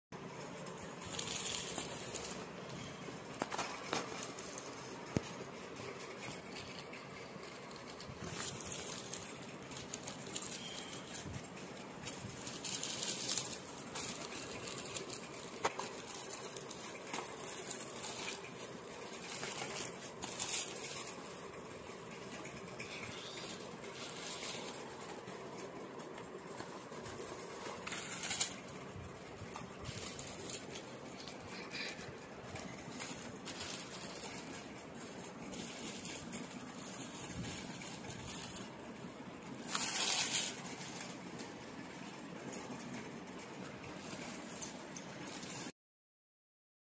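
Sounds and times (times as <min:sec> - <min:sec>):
plastic bag crinkling: 0:00.2 - 0:45.7
plastic packaging rustling: 0:00.2 - 0:45.7.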